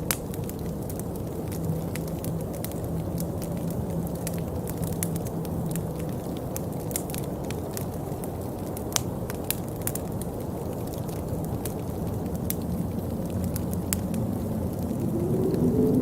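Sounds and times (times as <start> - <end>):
rain rushing: 0.0 - 16.0
raindrop ticks: 0.0 - 16.0.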